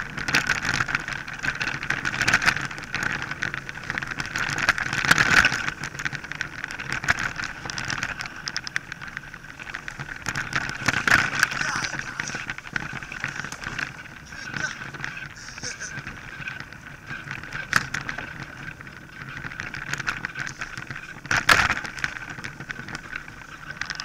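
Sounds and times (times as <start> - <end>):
bike rattling over bumps: 0.0 - 24.0
tyre and wind noise: 0.0 - 24.0.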